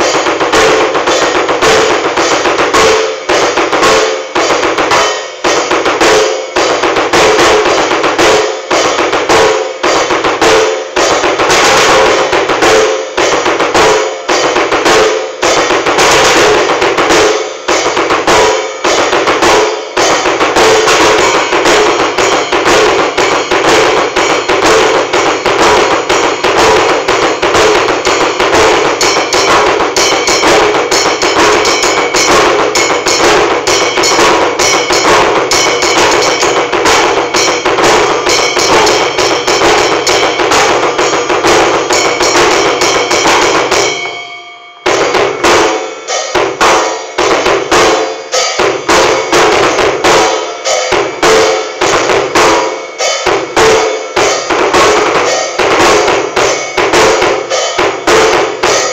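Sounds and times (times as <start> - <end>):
drum hits: 0.0 - 58.9
fast kick drum strokes: 0.0 - 58.9.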